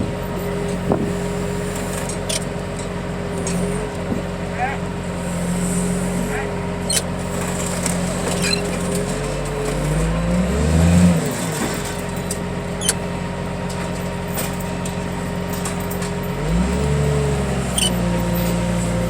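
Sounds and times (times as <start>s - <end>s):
heavy machine engine revving: 0.0s - 19.0s.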